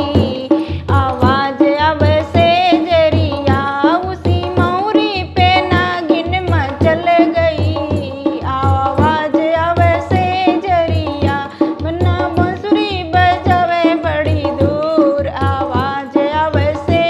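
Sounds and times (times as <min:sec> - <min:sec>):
hand drum beat: 0:00.0 - 0:17.0
woman singing folk song: 0:00.0 - 0:17.0.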